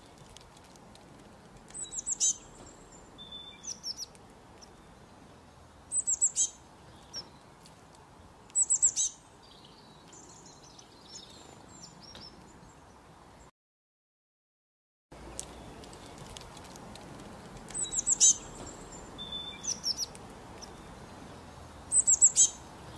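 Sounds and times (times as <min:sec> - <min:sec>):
soft bird calls: 0:00.0 - 0:13.5, 0:15.2 - 0:22.9
songbird chirping: 0:00.0 - 0:13.5, 0:15.2 - 0:22.9.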